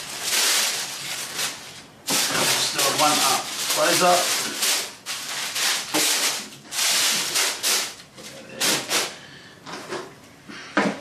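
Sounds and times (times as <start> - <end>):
tissue paper rustling: 0.0 - 9.1.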